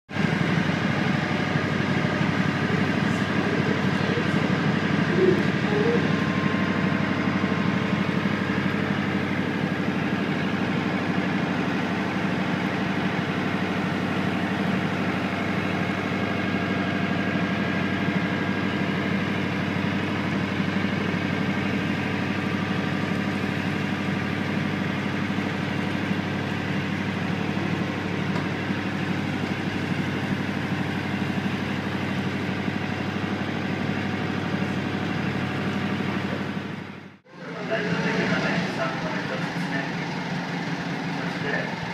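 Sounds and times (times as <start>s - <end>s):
boat engine running: 0.1s - 41.9s.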